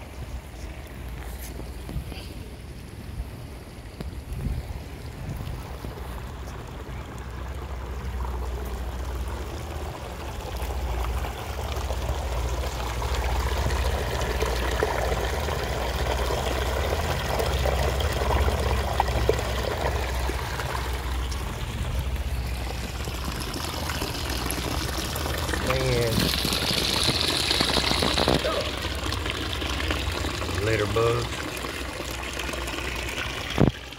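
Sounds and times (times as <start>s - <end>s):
running water pouring and trickling: 0.0s - 33.9s.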